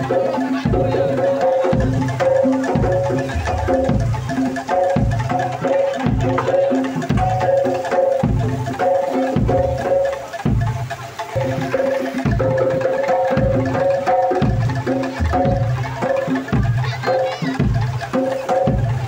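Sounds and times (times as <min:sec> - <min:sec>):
low drum strokes: 0:00.0 - 0:19.0
tuned wooden percussion notes: 0:00.0 - 0:19.0.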